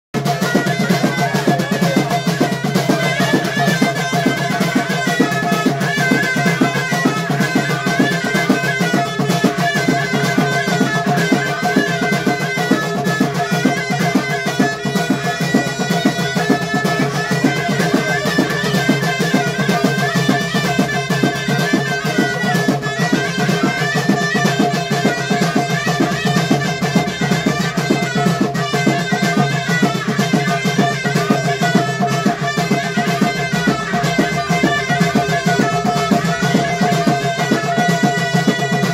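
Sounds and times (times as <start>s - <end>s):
frame drums and goblet drums: 0.1s - 38.9s.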